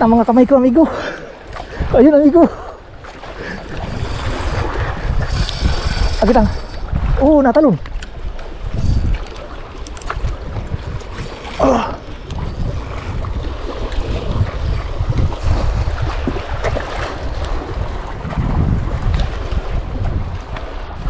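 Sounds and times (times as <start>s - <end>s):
sea waves washing on rocks: 0.0s - 21.0s
wind buffeting microphone: 0.0s - 21.0s.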